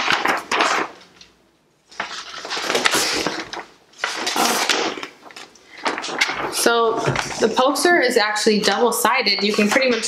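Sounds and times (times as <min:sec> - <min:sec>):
paper poster rustling: 0:00.0 - 0:10.0.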